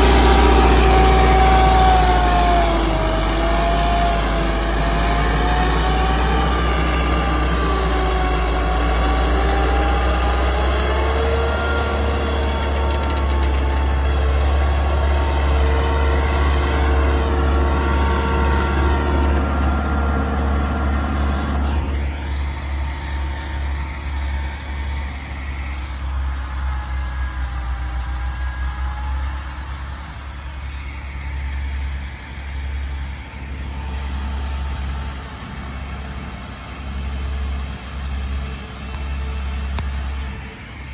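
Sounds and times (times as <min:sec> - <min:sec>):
tractor engine under load: 0:00.0 - 0:40.9.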